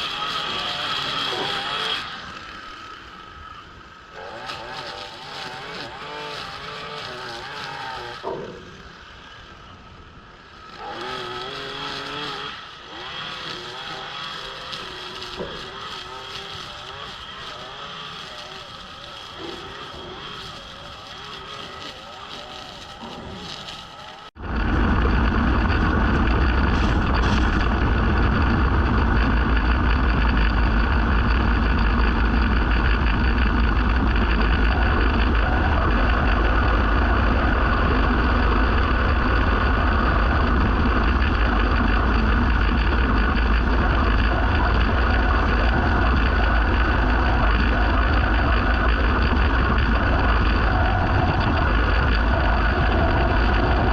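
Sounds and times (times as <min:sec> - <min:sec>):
mixed outdoor sound: 0:00.0 - 0:53.9
small gasoline engine running: 0:00.0 - 0:53.9.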